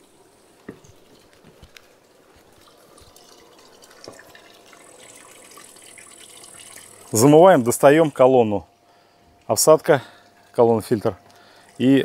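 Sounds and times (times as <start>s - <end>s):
water trickling from a hose: 0.0s - 8.4s, 9.4s - 12.0s.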